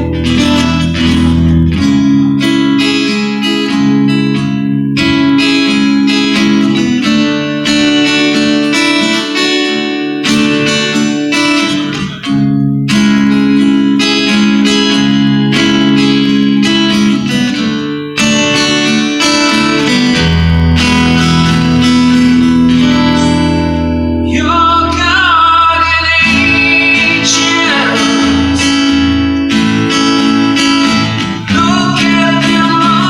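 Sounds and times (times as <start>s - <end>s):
guitar strumming chords: 0.0s - 33.0s.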